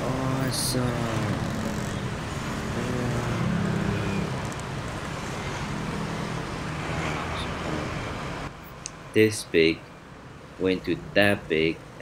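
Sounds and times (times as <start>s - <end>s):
roadside traffic hum: 0.0s - 12.0s.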